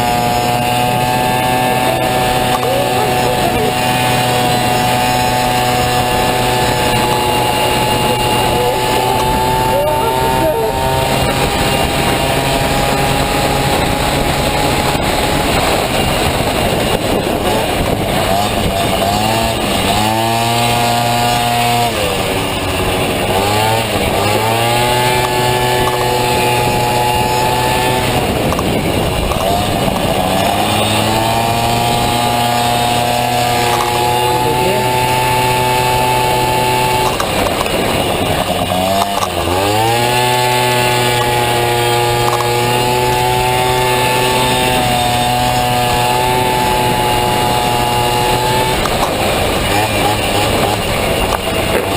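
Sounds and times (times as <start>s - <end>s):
scooter engine buzzing at high revs: 0.0s - 51.9s.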